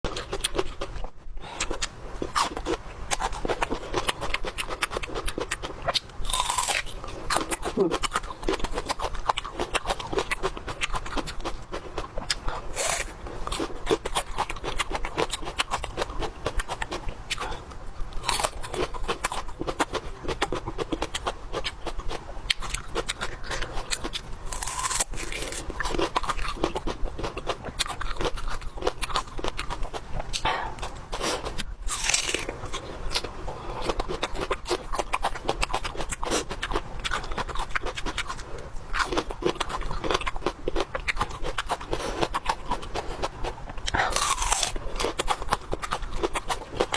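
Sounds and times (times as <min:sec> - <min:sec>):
crunching and chewing crisp food: 0:00.0 - 0:46.9.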